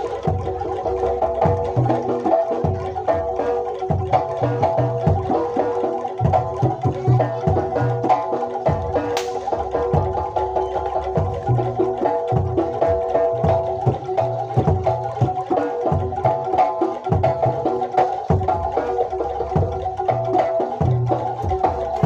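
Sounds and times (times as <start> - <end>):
repeating pitched melody: 0.0 - 22.0.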